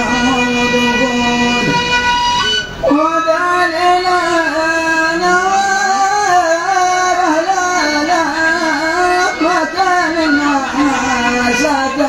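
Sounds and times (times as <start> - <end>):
man singing: 0.0 - 2.0, 2.9 - 12.0.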